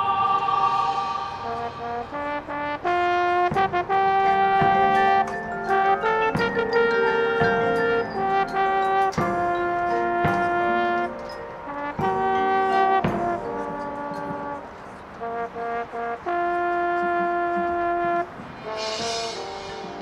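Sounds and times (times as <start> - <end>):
marching band brass playing: 0.0 - 20.0.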